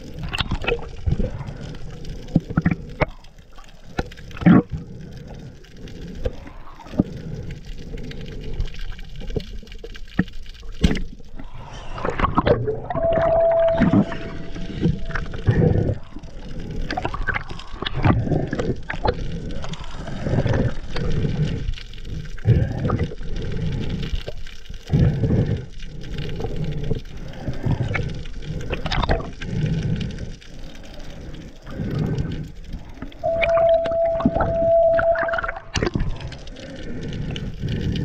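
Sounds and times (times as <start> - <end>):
water rushing and gurgling: 0.0 - 38.0.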